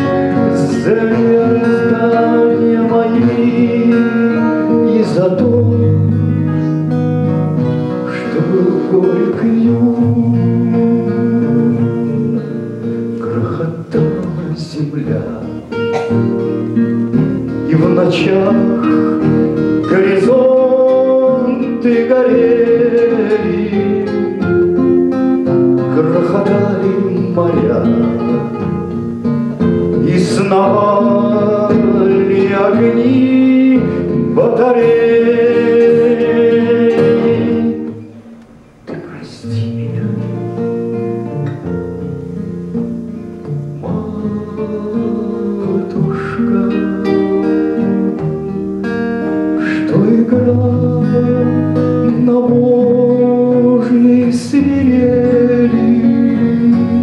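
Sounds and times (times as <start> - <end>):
man singing: 0.0 - 41.4, 43.5 - 57.0
acoustic guitar: 0.0 - 57.0.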